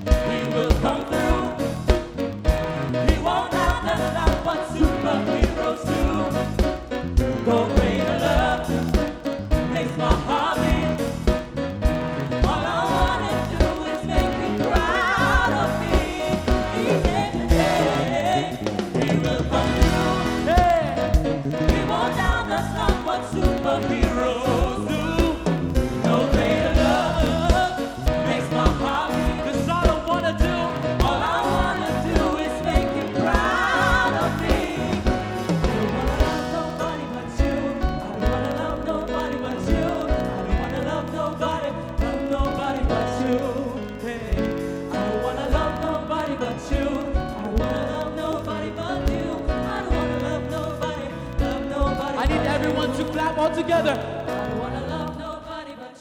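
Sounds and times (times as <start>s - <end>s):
gospel band playing: 0.0s - 55.4s
singers' voices: 0.0s - 56.0s.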